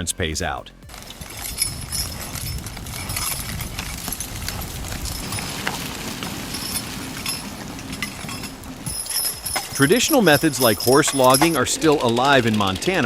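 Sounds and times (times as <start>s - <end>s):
hooves knocking on ground: 0.4s - 13.0s
steady low rumble: 0.7s - 11.6s
harness and chains jingling: 0.8s - 13.0s.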